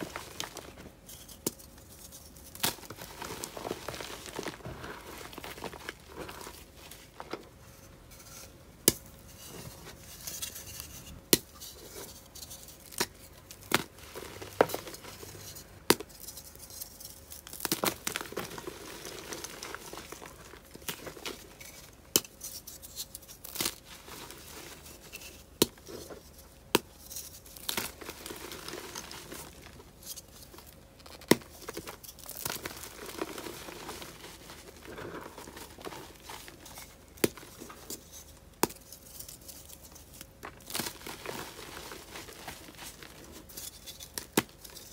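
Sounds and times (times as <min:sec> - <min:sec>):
chalk crumbling and rustling: 0:00.0 - 0:44.9.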